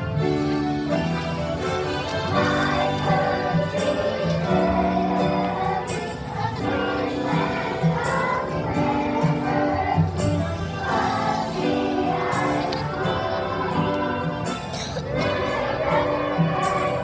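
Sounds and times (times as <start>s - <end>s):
choir singing: 0.8s - 17.0s.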